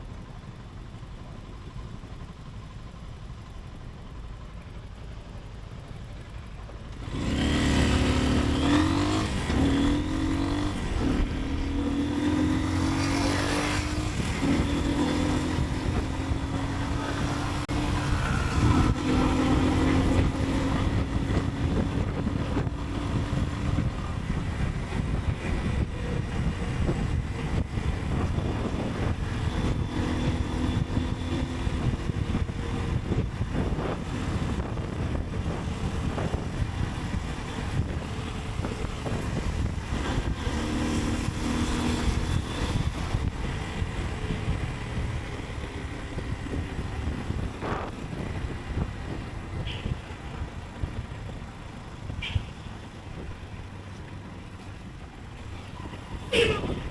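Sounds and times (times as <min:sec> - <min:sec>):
motorcycle engine running: 0:00.0 - 0:56.9
street traffic: 0:00.0 - 0:56.9
wind rush: 0:07.1 - 0:53.8, 0:55.2 - 0:56.9.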